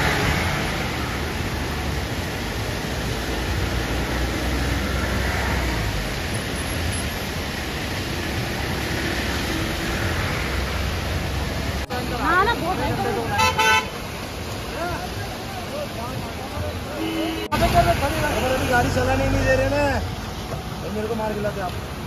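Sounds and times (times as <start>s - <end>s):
floodwater rushing over rubble: 0.0s - 22.0s.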